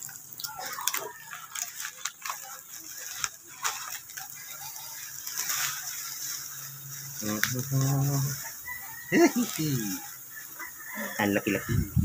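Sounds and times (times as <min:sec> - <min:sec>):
bubble wrap crackling: 0:00.0 - 0:12.0.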